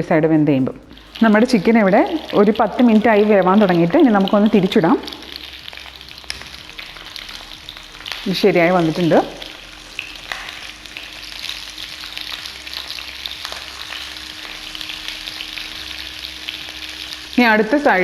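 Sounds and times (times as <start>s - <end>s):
chicken frying in oil: 0.8s - 18.0s.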